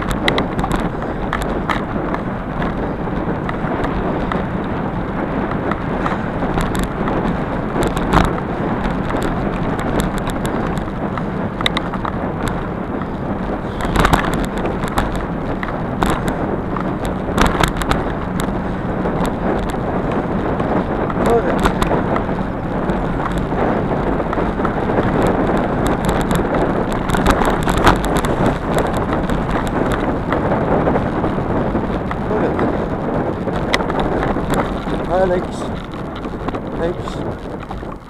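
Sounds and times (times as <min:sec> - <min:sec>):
bicycle tyre rumble: 0:00.0 - 0:38.0
bike knocks and rattles: 0:00.0 - 0:38.0
wind on microphone: 0:00.0 - 0:38.0.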